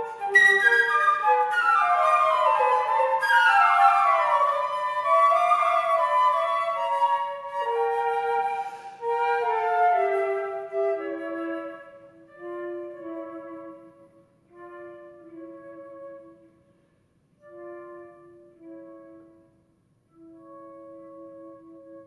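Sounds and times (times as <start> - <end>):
flutes playing held notes: 0.0 - 16.7, 17.4 - 22.0.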